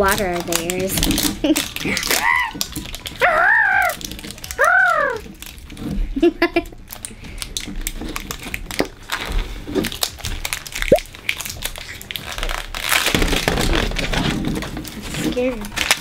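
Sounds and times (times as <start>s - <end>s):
wrapping crackling and rustling: 0.0s - 16.0s.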